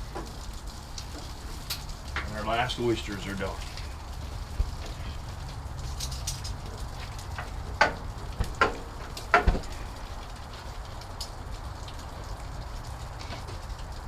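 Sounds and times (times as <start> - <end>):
faint crackling: 0.0 - 14.0.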